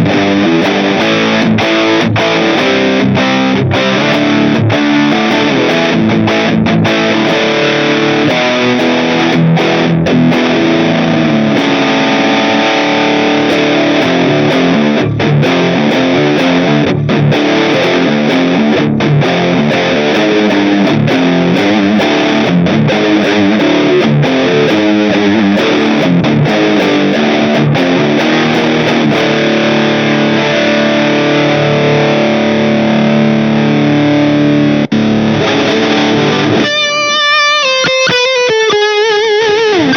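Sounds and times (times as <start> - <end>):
distorted electric guitar playing: 0.0 - 39.9.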